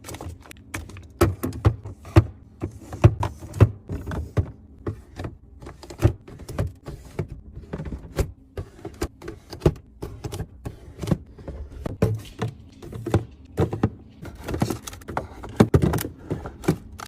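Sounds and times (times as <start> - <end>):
containers clunking and knocking: 0.0 - 17.0.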